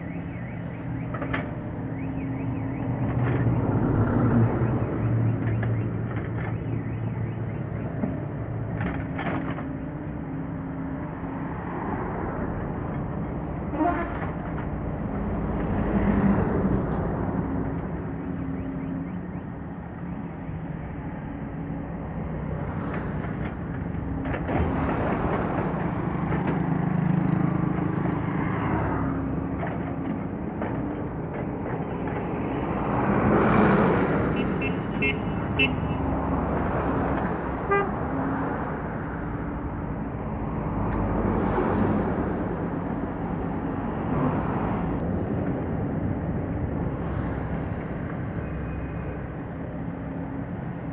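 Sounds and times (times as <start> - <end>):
diesel engines running: 0.0 - 50.9
vehicles passing: 0.0 - 50.9.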